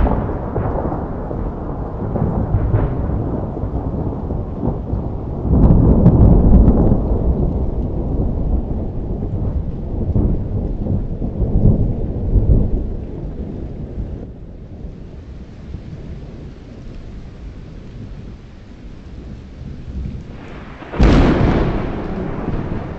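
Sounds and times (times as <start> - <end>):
thunder rumbling: 0.0 - 22.9.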